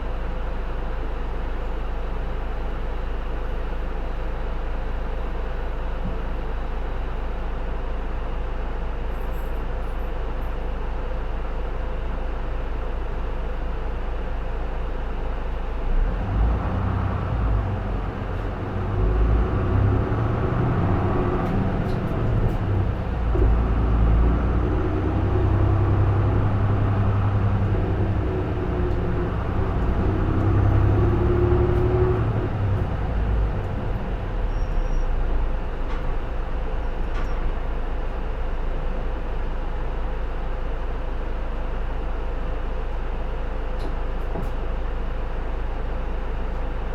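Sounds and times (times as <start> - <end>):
bus diesel engine accelerating: 0.0 - 46.9.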